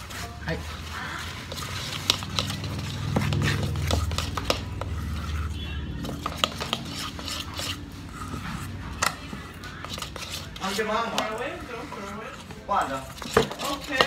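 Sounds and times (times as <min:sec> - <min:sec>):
utensil clinking against a dish: 0:00.0 - 0:14.0.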